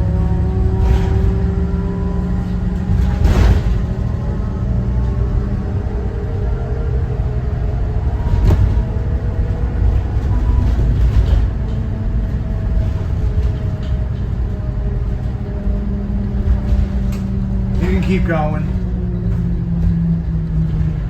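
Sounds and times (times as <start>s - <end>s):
diesel bus engine droning: 0.0s - 21.0s
road rumble: 0.0s - 21.0s.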